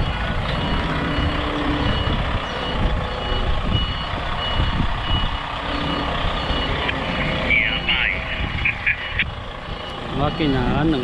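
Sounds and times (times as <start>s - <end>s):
diesel engine rumble: 0.0s - 11.0s
truck reversing alarm beeping: 0.0s - 11.0s.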